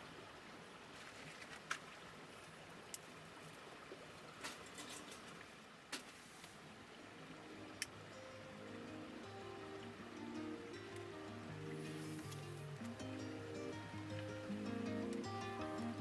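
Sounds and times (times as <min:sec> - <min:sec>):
background hiss: 0:00.6 - 0:16.0.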